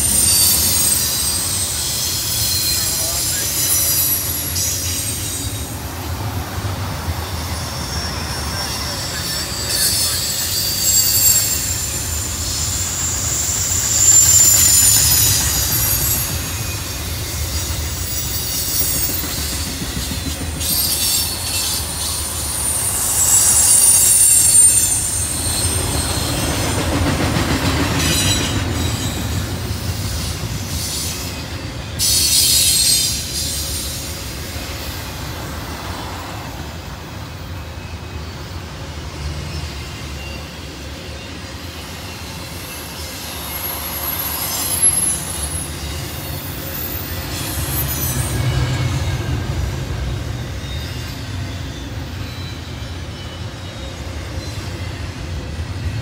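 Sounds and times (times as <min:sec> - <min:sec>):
wheel flanges squealing: 0:00.0 - 0:55.6
train rumbling past: 0:00.0 - 0:56.0.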